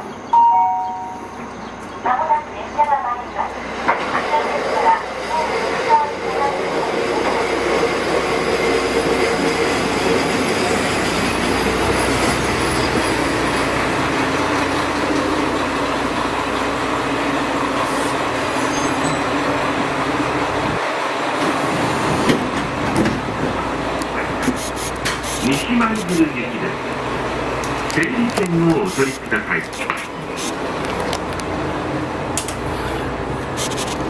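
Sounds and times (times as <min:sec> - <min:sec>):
diesel train pulling in: 0:00.0 - 0:34.0.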